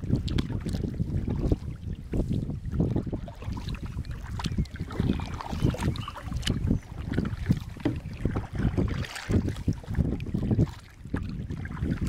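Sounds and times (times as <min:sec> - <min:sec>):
paddle splashes and drips: 0:00.0 - 0:12.0
wind buffeting microphone: 0:00.0 - 0:12.0.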